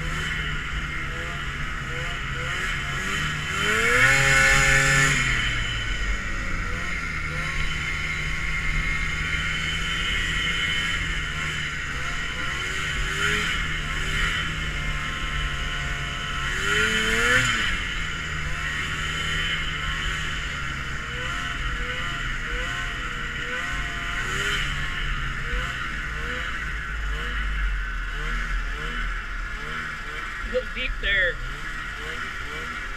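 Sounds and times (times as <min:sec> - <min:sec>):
snowmobile engines revving: 0:00.0 - 0:32.9.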